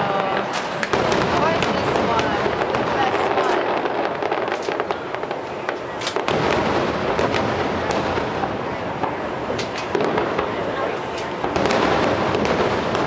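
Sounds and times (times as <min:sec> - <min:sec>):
continuous rumble: 0:00.0 - 0:13.0
fireworks bursting: 0:00.0 - 0:13.0.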